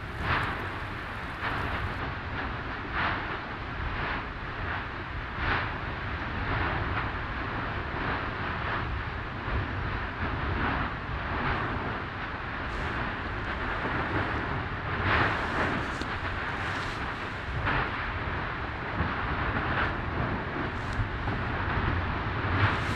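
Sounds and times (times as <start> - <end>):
lava fountain rumbling and gushing: 0.0 - 22.9.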